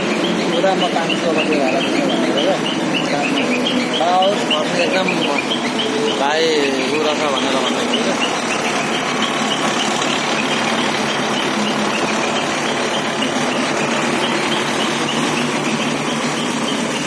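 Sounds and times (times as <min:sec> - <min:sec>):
diesel engine running loudly: 0:00.0 - 0:17.0.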